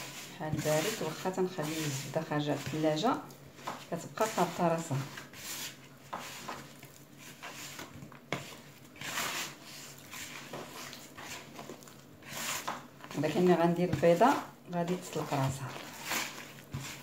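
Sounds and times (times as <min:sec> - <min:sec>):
hands kneading dough in plastic bowl: 0:00.0 - 0:17.0.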